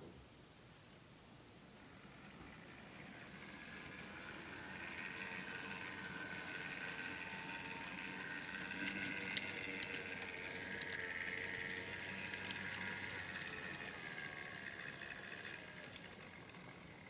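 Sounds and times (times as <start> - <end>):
model train whirring on track: 1.5 - 17.0
wheel clicks: 2.9 - 17.0.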